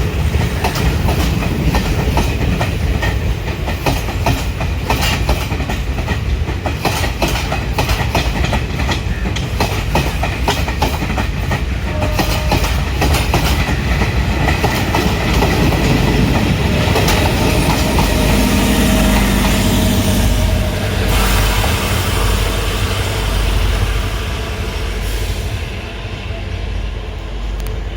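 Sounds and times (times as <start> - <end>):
train wheels clicking over rail joints: 0.0 - 25.1
train rumble: 0.0 - 27.9.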